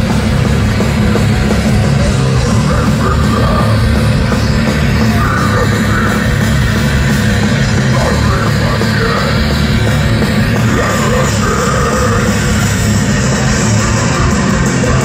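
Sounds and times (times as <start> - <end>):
death metal band playing live: 0.0 - 15.0.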